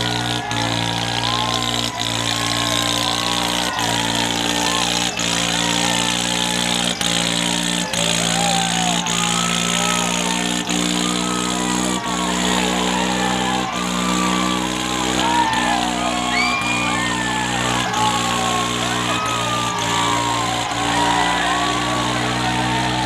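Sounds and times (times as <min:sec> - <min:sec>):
crowd voices and shouts: 0:00.0 - 0:23.0
tractor diesel engines running: 0:00.0 - 0:23.0.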